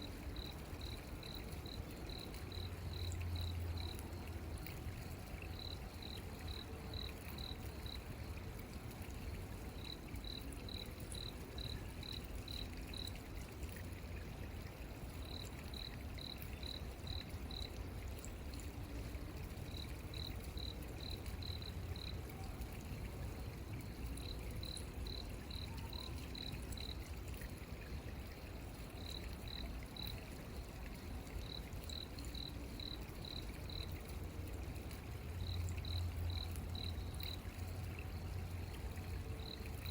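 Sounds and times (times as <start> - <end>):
low rumble and hiss: 0.0 - 39.9.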